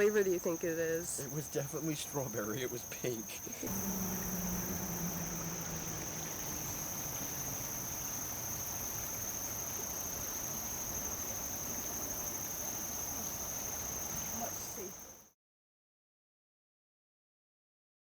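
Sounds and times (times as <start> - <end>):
insect chorus trilling: 0.0 - 15.3.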